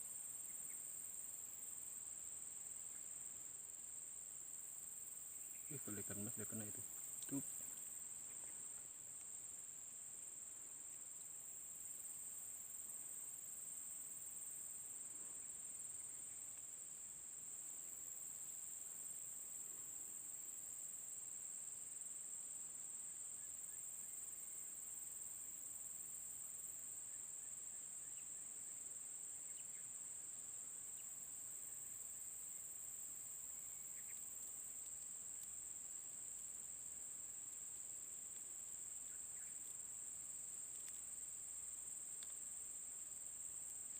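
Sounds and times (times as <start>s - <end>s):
higher-pitched insect chorus: 0.0s - 43.9s
insects droning: 0.0s - 43.9s.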